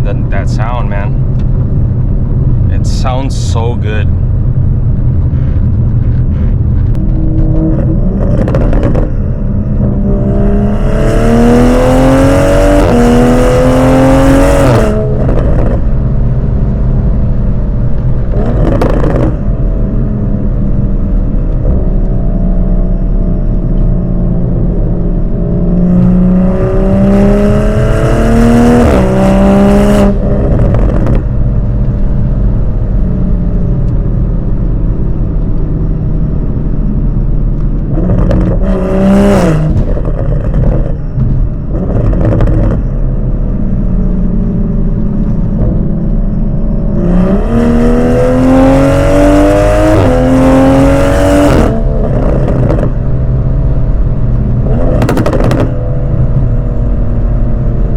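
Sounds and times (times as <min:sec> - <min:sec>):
car exhaust accelerating: 0:00.0 - 0:57.9.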